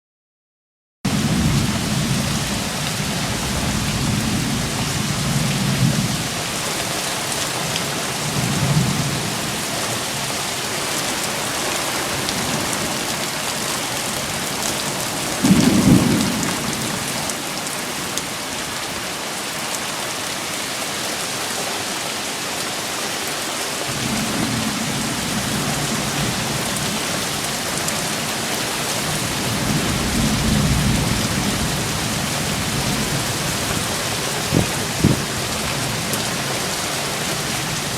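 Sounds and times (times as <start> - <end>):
thunder rumbling: 1.1 - 7.1, 7.7 - 18.9, 23.9 - 37.9
heavy rain falling: 1.1 - 37.9.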